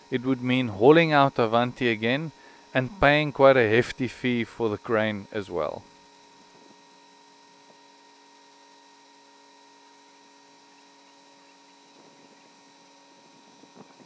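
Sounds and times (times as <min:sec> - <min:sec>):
faint hum of held tones: 0:00.0 - 0:14.0.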